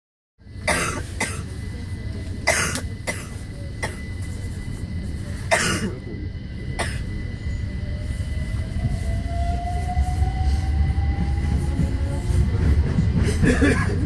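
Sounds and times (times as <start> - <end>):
train carriage rumble: 0.4 - 14.0.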